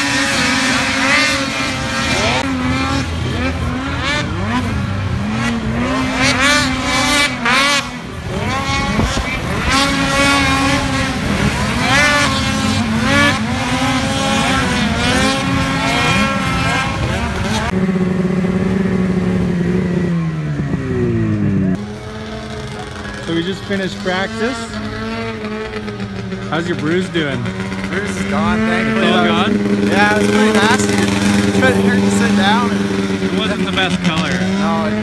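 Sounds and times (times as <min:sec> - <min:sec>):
snowmobile engines revving: 0:00.0 - 0:35.0.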